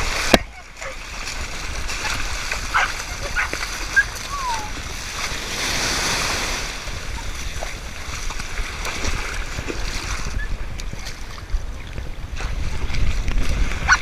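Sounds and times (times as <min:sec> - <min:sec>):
surf washing and splashing: 0:00.0 - 0:14.0
wind rumble on microphone: 0:00.0 - 0:14.0.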